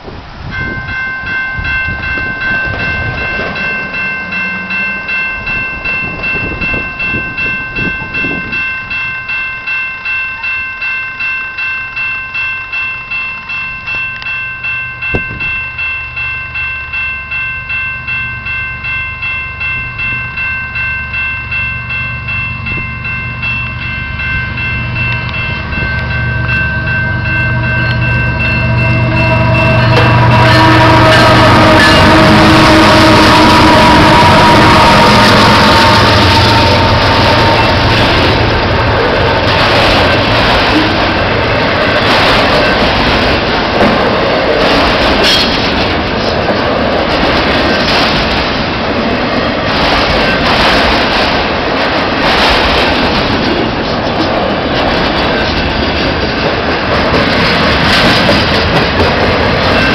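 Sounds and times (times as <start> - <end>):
diesel locomotive rumble: 0.0 - 10.9, 12.3 - 59.9
crossing warning bell ringing: 0.4 - 59.9.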